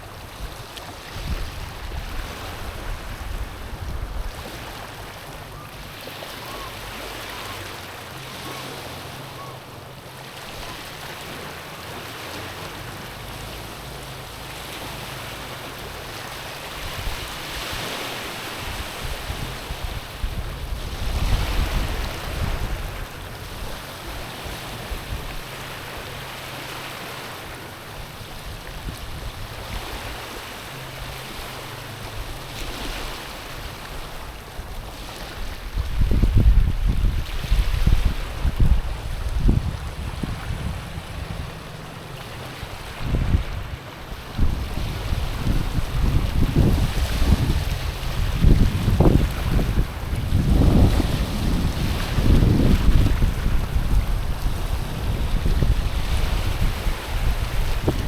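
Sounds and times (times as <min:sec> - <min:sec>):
waves washing over pebbles: 0:00.0 - 0:58.0.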